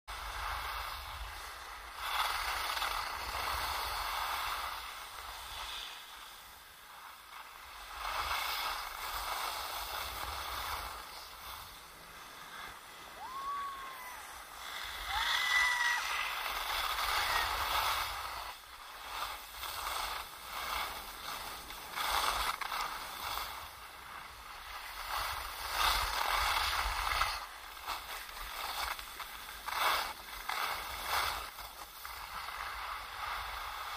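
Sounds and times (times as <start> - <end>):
skis scraping on hard snow: 0.1 - 33.9.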